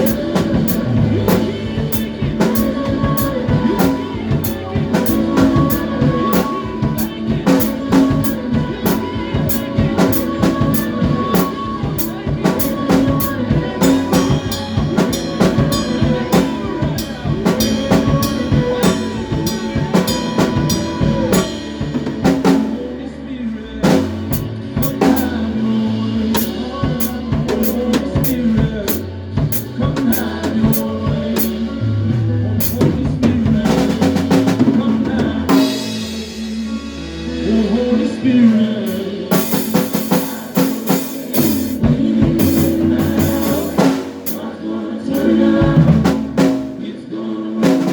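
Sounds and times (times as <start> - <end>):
drum kit: 0.0 - 23.1, 23.8 - 47.0, 47.6 - 47.9
bass line: 0.0 - 47.0.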